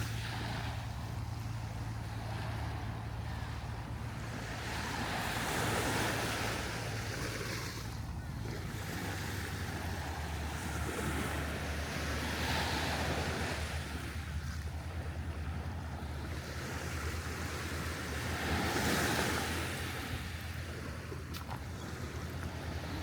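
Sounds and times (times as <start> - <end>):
waves breaking on beach: 0.0 - 23.0
wind rumbling on microphone: 0.0 - 23.0.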